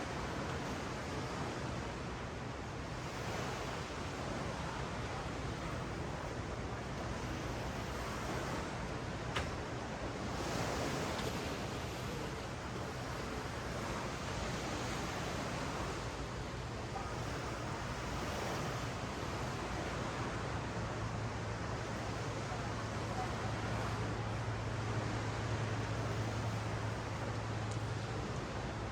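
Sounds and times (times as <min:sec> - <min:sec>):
ocean surf on sandy beach: 0:00.0 - 0:28.9.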